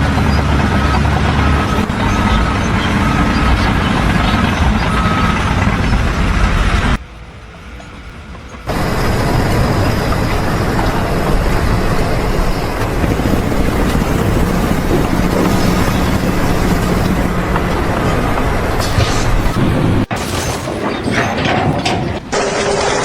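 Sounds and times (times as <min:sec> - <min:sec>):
heavy vehicle engine running: 0:00.0 - 0:20.2.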